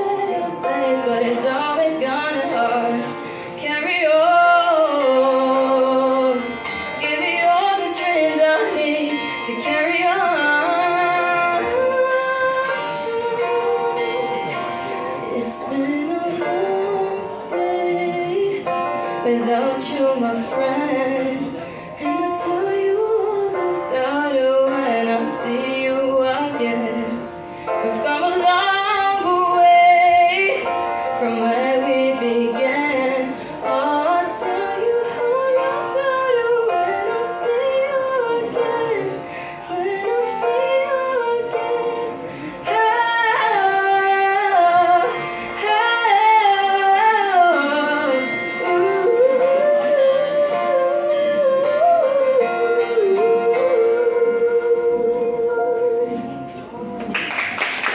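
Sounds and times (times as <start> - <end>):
girl singing through loudspeaker: 0.0 - 56.6
musical accompaniment: 0.0 - 57.9.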